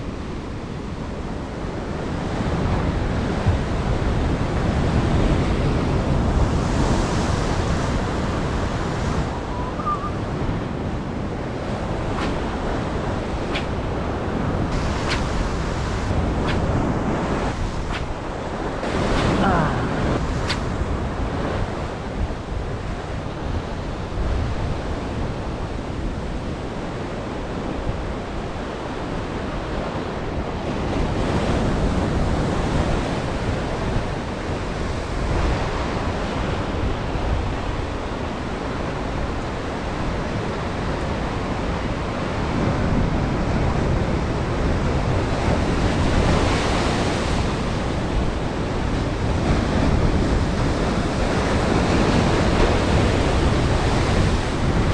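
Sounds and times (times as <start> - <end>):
ocean surf washing: 0.0 - 54.9
wind buffeting microphone: 0.0 - 54.9.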